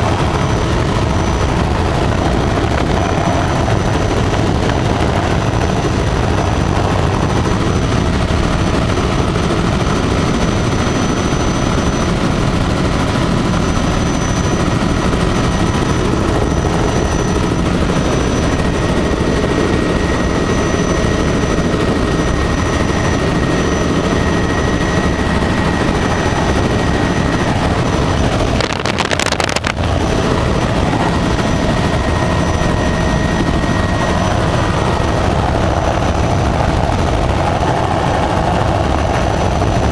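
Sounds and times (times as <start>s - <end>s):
high-pitched whines: 0.0s - 39.8s
helicopter rotor and engine drone: 0.0s - 39.9s.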